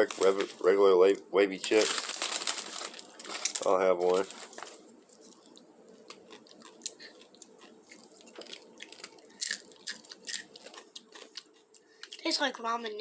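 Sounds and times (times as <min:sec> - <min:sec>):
crunching potato chips: 0:01.6 - 0:12.2.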